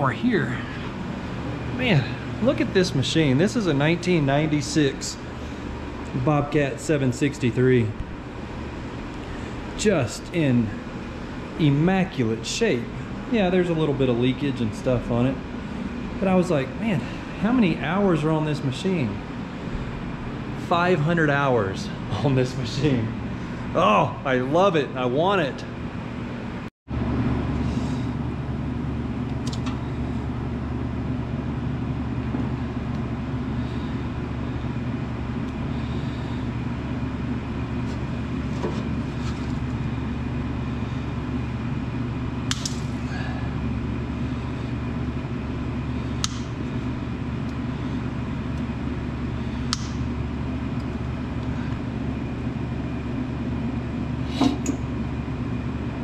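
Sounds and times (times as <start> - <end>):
diesel engine running: 0.0 - 25.5, 27.0 - 55.3.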